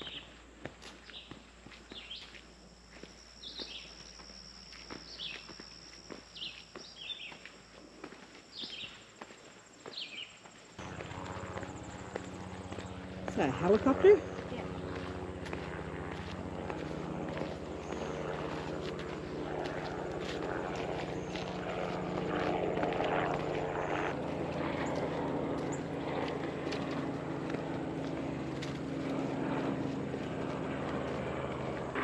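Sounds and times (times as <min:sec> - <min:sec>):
helicopter engine and rotor droning: 0:00.0 - 0:32.0.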